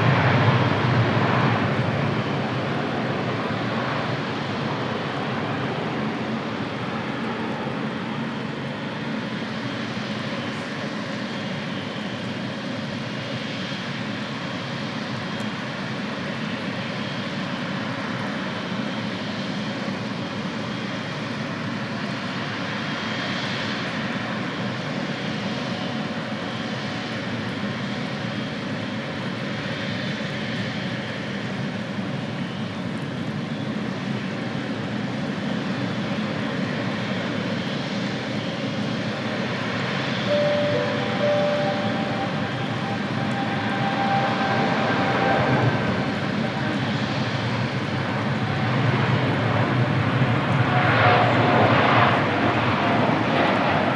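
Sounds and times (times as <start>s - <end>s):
faint high engine whine: 0.0s - 53.9s
jet engines running: 0.0s - 53.9s.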